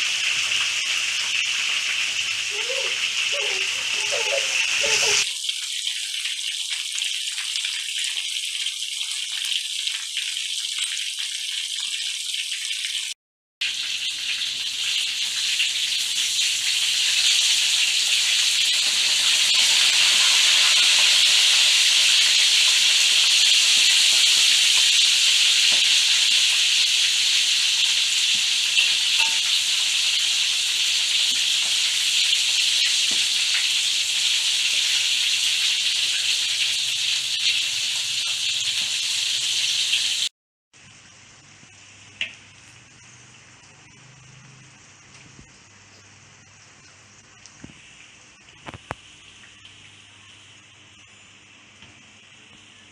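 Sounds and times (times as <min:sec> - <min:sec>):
meat frying in hot oil: 0:00.0 - 0:52.9.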